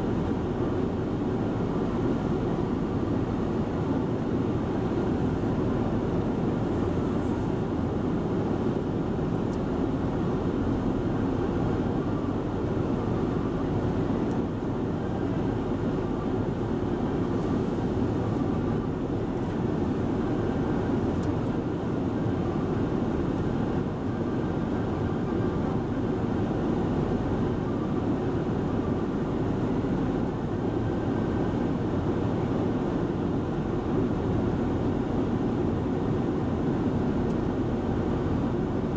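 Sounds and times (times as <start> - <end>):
low rumble of machinery: 0.0 - 38.9.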